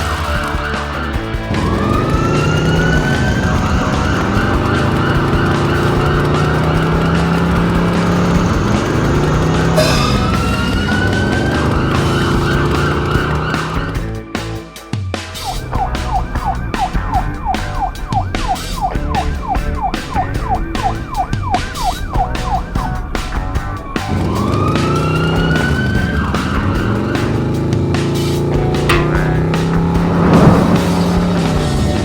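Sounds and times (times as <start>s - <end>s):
background music with steady beat: 0.0s - 32.0s
police siren yelp and wail: 0.9s - 14.2s, 15.4s - 27.8s.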